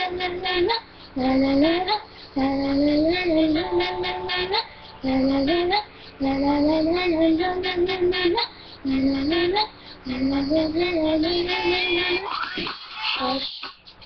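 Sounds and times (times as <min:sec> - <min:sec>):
high singing voice: 0:00.0 - 0:14.0.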